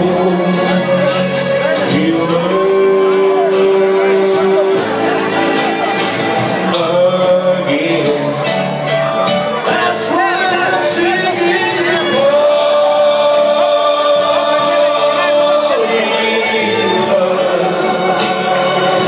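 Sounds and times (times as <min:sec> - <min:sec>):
man singing into microphone: 0:00.0 - 0:05.5, 0:06.5 - 0:19.0
karaoke backing track: 0:00.0 - 0:19.0.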